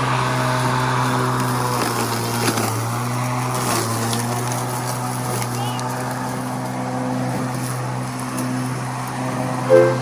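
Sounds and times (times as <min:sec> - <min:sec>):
electric lawn mower running: 0:00.0 - 0:09.6.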